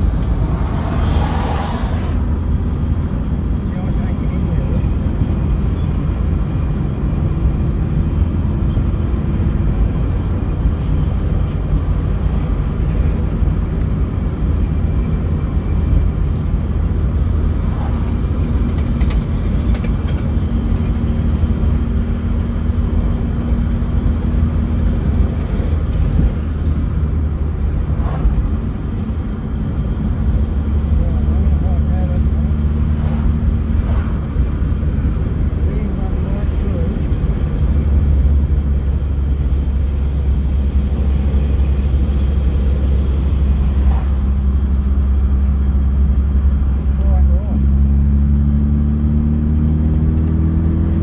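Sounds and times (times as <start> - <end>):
car interior road rumble: 0.0 - 51.0.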